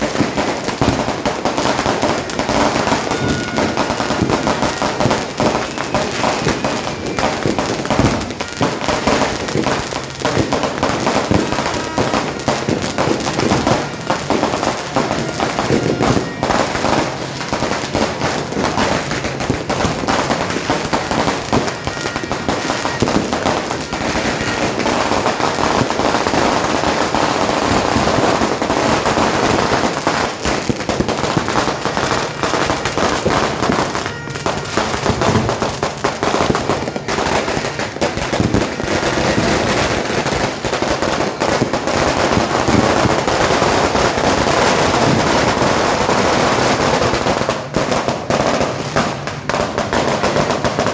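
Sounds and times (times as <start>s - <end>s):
fireworks and firecrackers banging: 0.0s - 50.9s.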